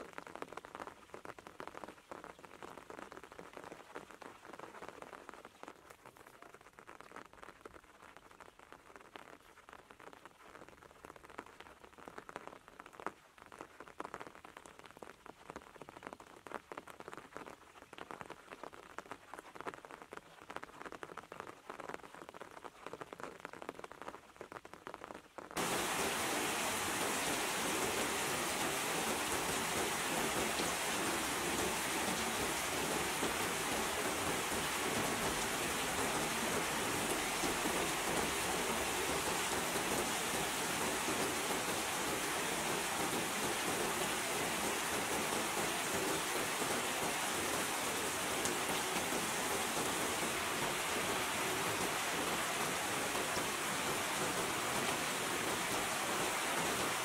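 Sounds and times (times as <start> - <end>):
heavy rain: 0.0 - 7.3, 10.0 - 57.0
light rain patter: 0.0 - 57.0.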